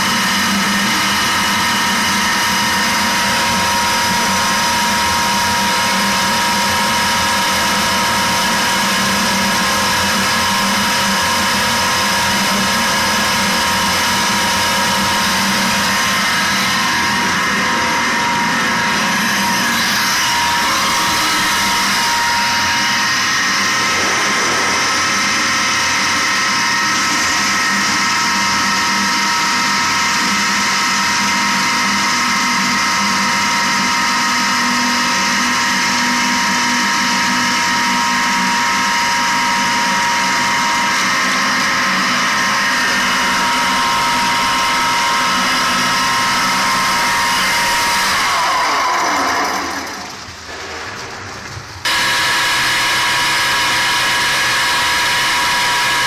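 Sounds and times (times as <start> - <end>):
pump running with whine: 0.0 - 56.0.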